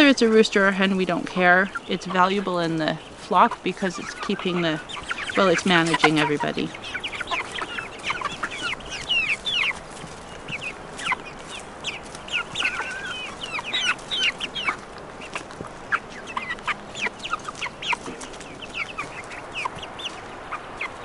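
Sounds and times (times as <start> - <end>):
chickens clucking and chirping: 0.0 - 21.0.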